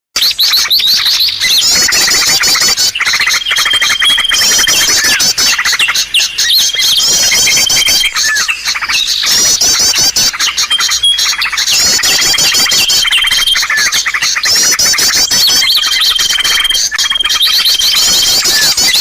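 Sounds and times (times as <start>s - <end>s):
songbirds chirping and trilling: 0.2s - 19.0s.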